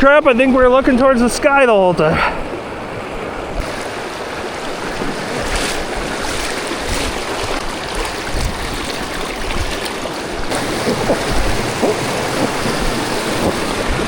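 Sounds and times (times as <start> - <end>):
river rapid rushing water: 0.4 - 14.0.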